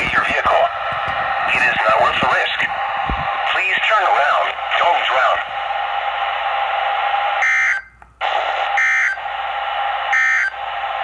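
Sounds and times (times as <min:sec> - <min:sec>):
radio hiss: 0:00.0 - 0:11.0.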